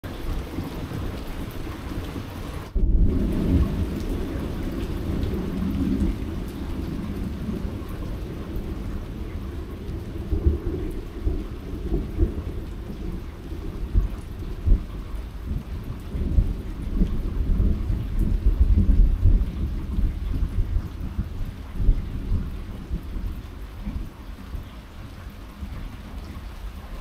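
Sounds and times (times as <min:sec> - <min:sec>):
thunder rumbling: 0:00.0 - 0:27.0
low thunder booms: 0:00.2 - 0:24.2.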